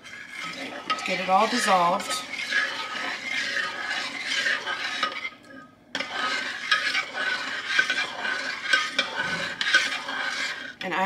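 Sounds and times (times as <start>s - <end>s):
utensil stirring in a bowl: 0.0s - 11.0s.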